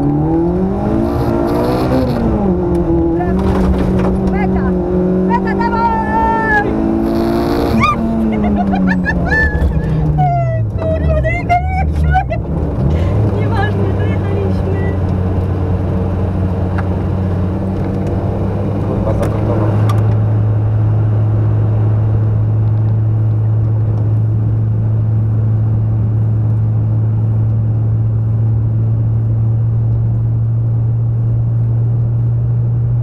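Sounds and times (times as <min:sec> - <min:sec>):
car engine running inside cabin: 0:00.0 - 0:33.0.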